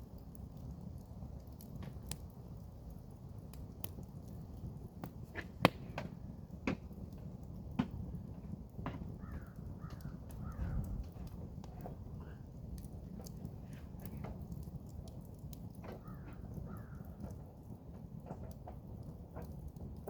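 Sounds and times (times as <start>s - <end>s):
campfire crackling: 0.0s - 20.0s
sharp pops from burning wood: 0.0s - 20.0s.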